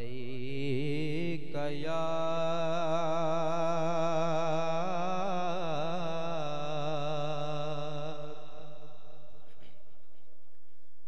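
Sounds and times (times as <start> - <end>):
man singing: 0.0 - 9.4.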